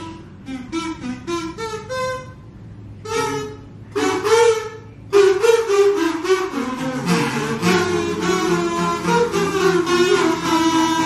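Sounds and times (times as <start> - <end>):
kazoos buzzing a melody: 0.0 - 11.0.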